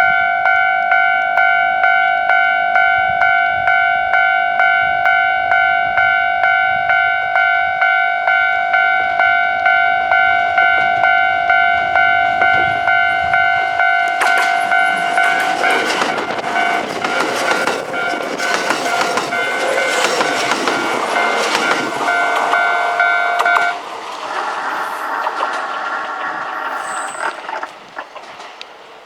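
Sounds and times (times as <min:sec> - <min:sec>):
level crossing bell ringing: 0:00.0 - 0:23.8
train passing on rails: 0:00.0 - 0:29.0.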